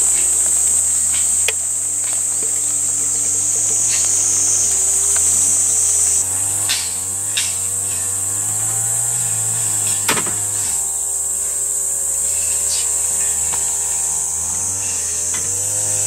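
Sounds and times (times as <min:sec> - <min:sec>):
insects buzzing: 0:00.0 - 0:16.0
low wavering hum: 0:00.0 - 0:16.0.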